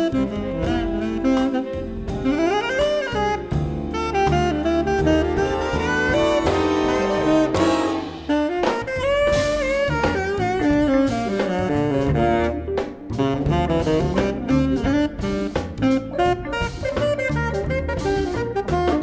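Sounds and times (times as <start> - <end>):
jazz big band playing: 0.0 - 19.0.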